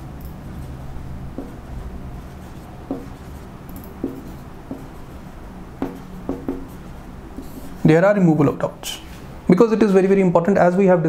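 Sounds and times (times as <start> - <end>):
marker pen on whiteboard: 0.2 - 9.3.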